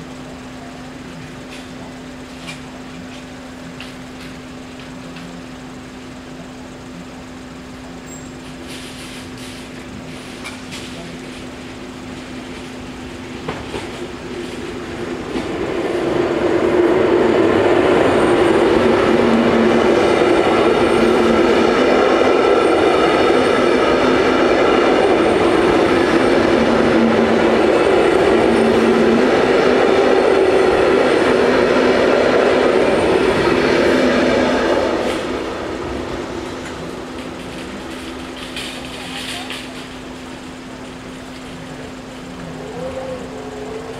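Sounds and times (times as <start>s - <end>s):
steady low hum: 0.0s - 43.9s
train wheels rushing on rail: 0.0s - 43.9s.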